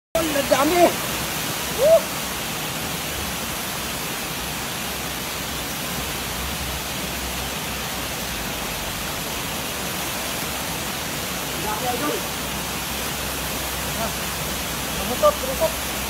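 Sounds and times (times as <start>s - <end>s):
river water rushing: 0.2s - 16.0s.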